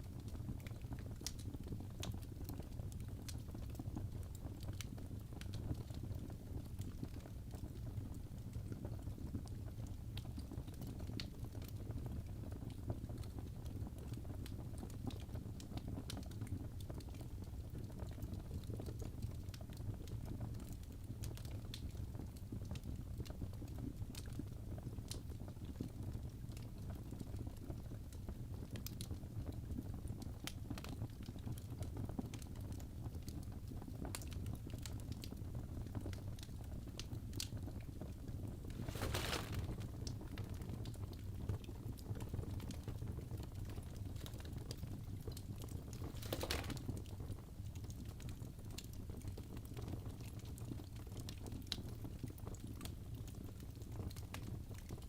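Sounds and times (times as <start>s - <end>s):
wood fire crackling and rumbling: 0.0s - 55.0s.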